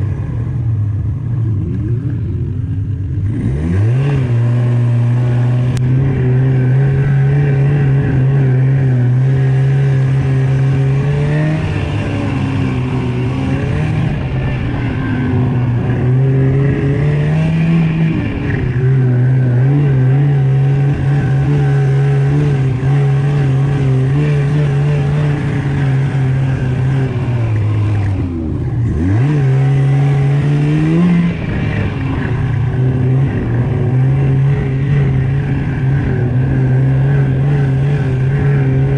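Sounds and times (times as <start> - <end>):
snowmobile engine revving: 1.4 - 38.9.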